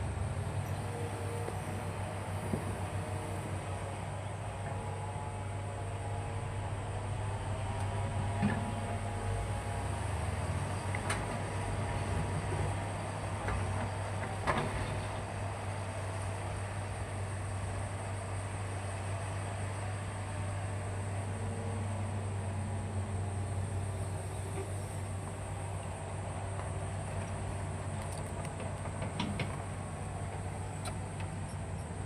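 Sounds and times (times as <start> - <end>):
excavator diesel engine humming: 0.0 - 32.0.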